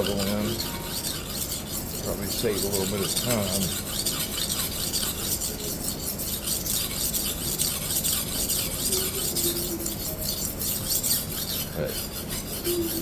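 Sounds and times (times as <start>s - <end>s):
knife scraping on sharpening stone: 0.0s - 13.0s.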